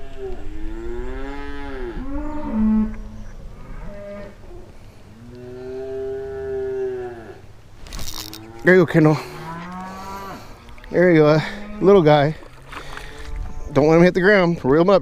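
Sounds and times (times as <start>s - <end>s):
cattle mooing: 0.0s - 7.5s, 8.2s - 13.8s.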